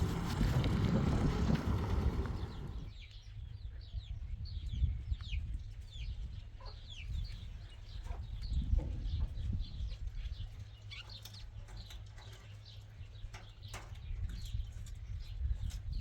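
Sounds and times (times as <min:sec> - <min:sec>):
wind buffeting the microphone: 0:00.0 - 0:10.8, 0:13.2 - 0:16.0.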